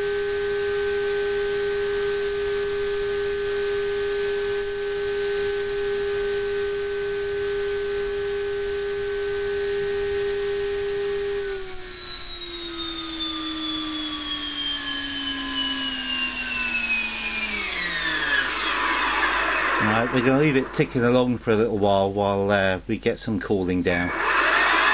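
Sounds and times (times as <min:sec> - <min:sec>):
electric ducted fan whining: 0:00.0 - 0:24.9.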